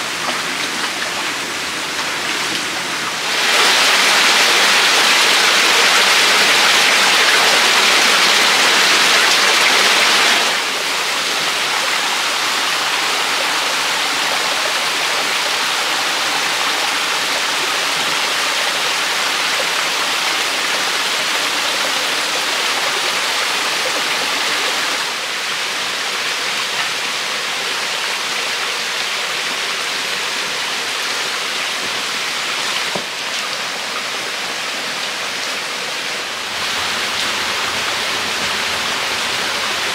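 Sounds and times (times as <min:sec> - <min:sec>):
stream and small waterfall rushing: 0:00.0 - 0:39.9.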